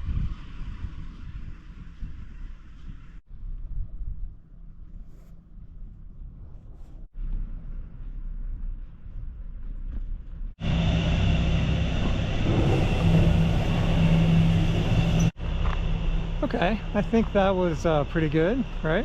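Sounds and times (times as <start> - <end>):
mechanical rumble with low hum: 0.0 - 19.0.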